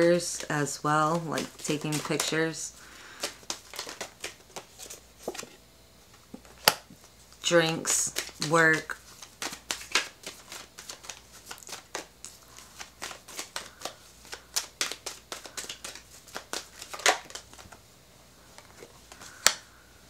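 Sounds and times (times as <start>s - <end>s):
cards being shuffled: 0.0s - 17.8s.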